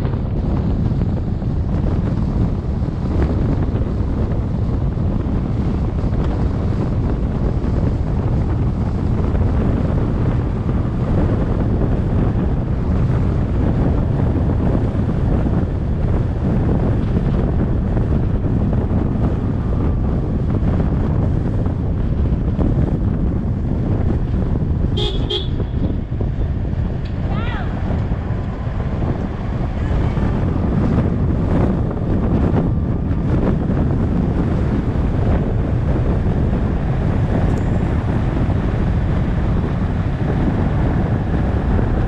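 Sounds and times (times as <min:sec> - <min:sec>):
vehicle rumble on dirt road: 0:00.0 - 0:42.0
wind buffeting microphone: 0:00.0 - 0:42.0.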